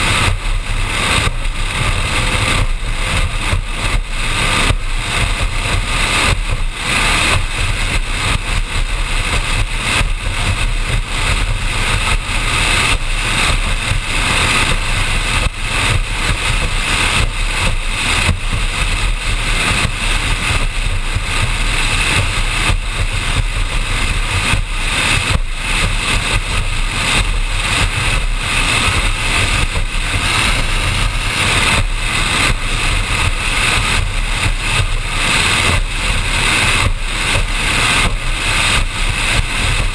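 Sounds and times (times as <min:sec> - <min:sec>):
boat engine drone: 0:00.0 - 0:39.9
hull thumping on waves: 0:00.0 - 0:39.9
wind rumble on microphone: 0:00.0 - 0:39.9.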